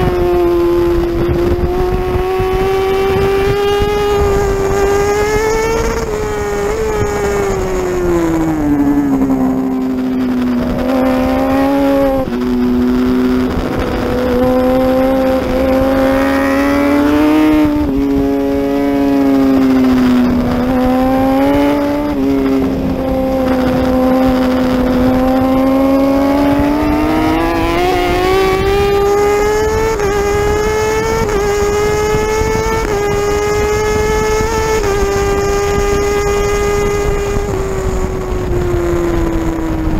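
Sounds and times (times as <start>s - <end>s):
racing motorcycle engine revving: 0.0s - 39.9s
wind rush: 0.0s - 39.9s.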